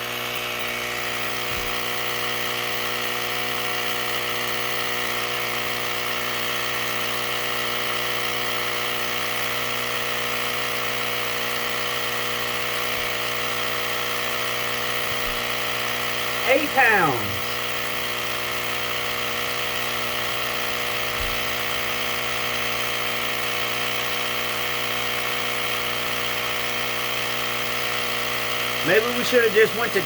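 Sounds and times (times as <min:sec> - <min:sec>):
tire inflator buzzing hum: 0:00.0 - 0:30.0.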